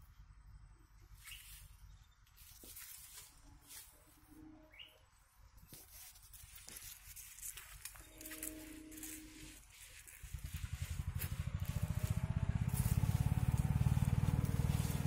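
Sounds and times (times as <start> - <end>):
leaves and twigs rustling: 1.0 - 4.9, 5.5 - 15.0.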